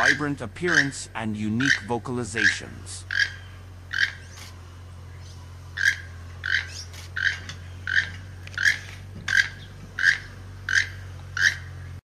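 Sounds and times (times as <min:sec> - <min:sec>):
toucan croaking calls: 0:00.0 - 0:12.0.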